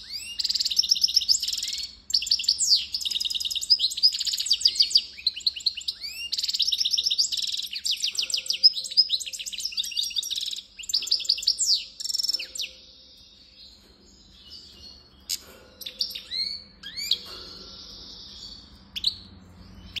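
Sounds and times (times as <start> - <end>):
goldfinch singing: 0.0 - 20.0.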